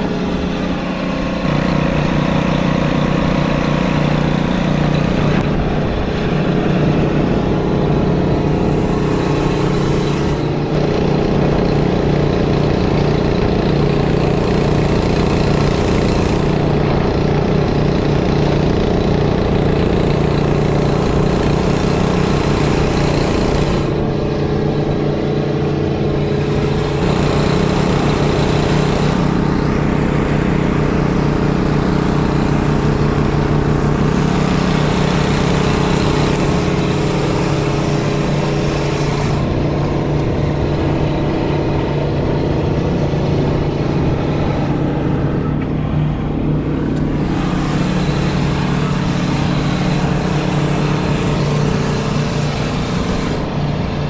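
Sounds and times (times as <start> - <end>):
loader engine running: 0.0 - 54.0
mower cutting grass and brush: 0.0 - 54.0.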